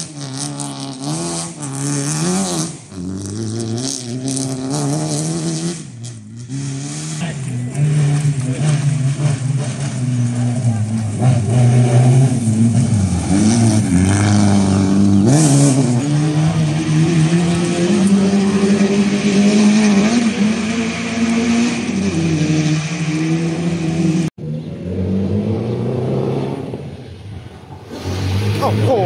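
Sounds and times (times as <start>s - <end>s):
vehicle engine revving: 0.0s - 29.0s.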